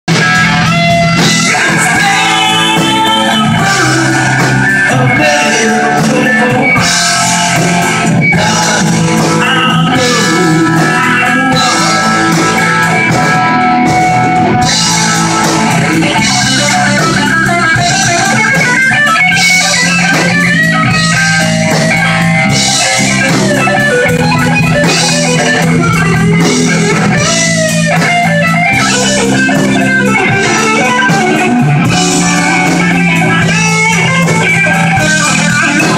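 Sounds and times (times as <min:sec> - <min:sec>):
rock band playing: 0:00.1 - 0:35.9.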